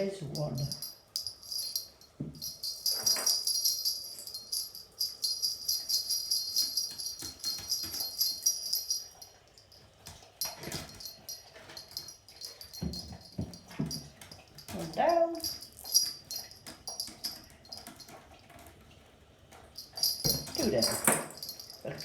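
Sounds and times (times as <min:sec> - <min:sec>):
toy bell jingling and rattling: 0:00.0 - 0:18.2, 0:19.8 - 0:22.0.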